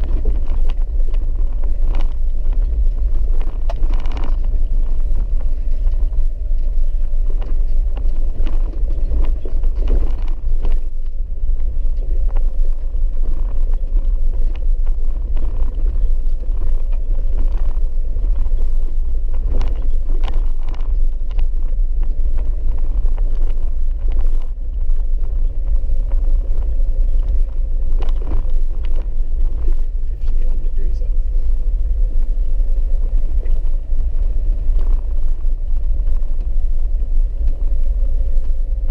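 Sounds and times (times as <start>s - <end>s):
vehicle rumbling on dirt road: 0.0s - 38.9s.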